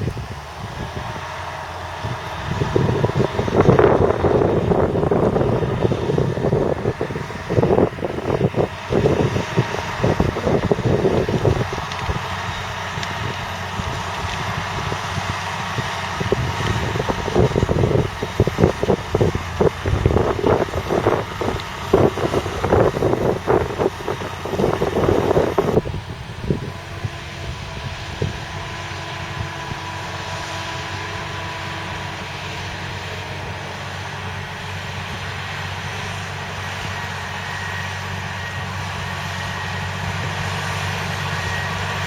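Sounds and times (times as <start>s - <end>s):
tractor diesel engine running: 0.0s - 42.0s
wind buffeting microphone: 0.0s - 42.0s.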